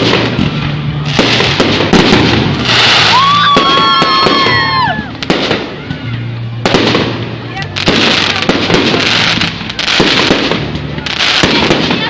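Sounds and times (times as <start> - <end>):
whistling firework: 0.0 - 12.0.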